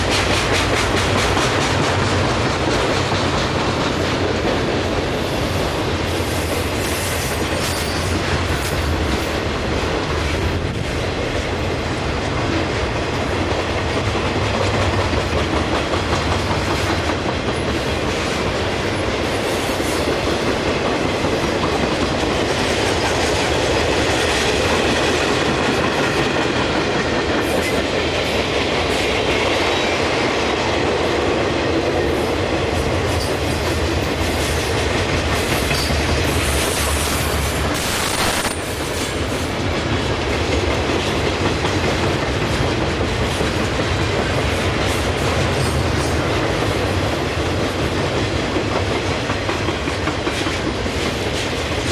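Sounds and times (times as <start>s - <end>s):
freight train wheels on rails: 0.0s - 51.9s.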